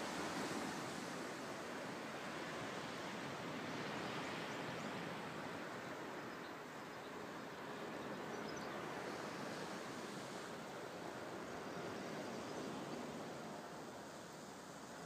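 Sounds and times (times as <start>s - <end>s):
soft outdoor ambient hiss: 0.0s - 15.0s.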